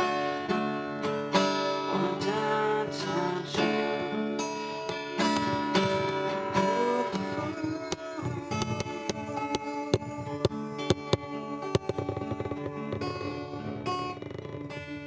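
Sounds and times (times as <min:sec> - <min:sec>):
acoustic guitar strummed: 0:00.0 - 0:15.0
plucked guitar notes: 0:00.0 - 0:15.0.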